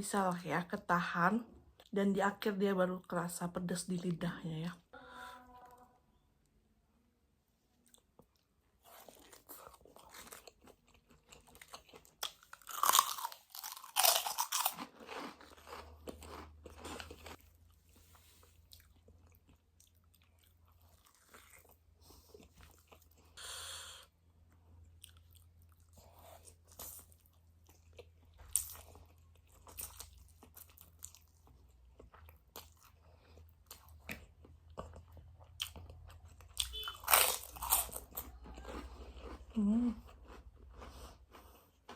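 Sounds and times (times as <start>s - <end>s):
crunching and chewing: 7.8s - 41.9s.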